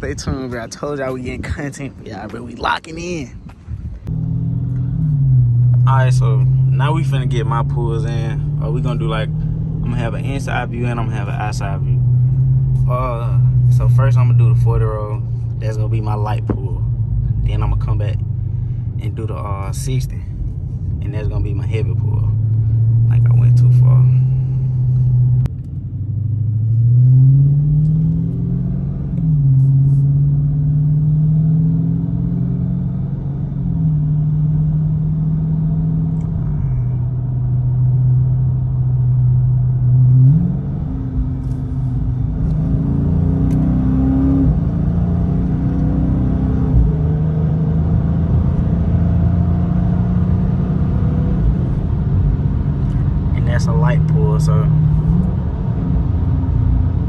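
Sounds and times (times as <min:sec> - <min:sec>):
car engine accelerating: 0:03.5 - 0:57.0.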